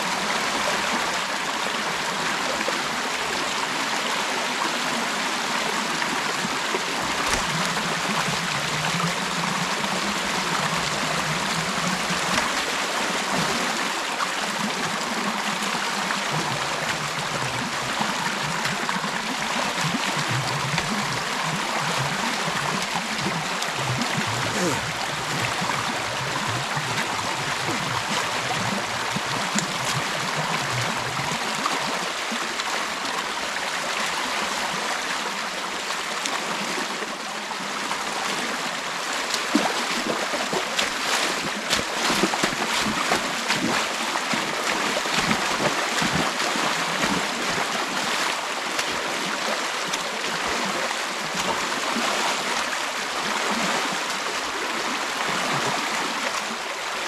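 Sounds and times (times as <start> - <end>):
creek water rushing and splashing: 0.0 - 57.0.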